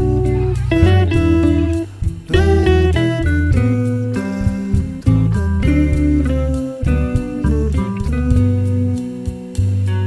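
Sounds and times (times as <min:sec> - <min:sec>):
instrumental music with sustained notes: 0:00.0 - 0:10.0.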